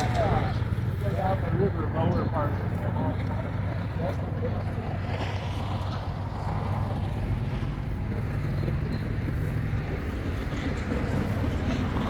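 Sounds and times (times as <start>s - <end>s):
vehicle running rumble: 0.0s - 12.0s.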